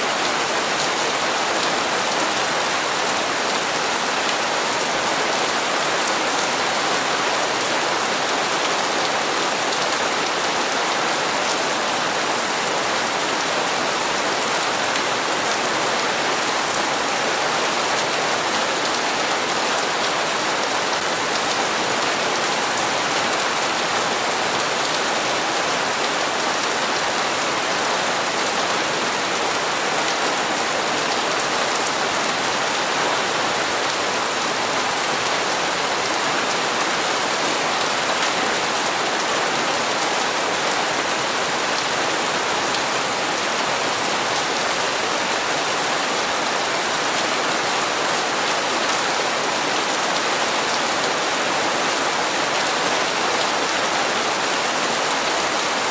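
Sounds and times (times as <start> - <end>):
rain on hard surfaces: 0.0 - 55.9.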